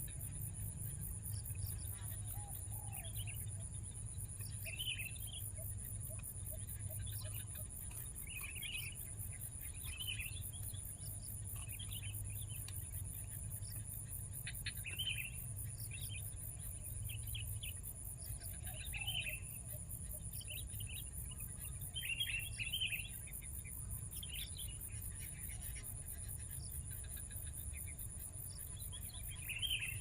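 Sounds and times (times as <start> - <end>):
bird chirping: 1.2 - 30.0.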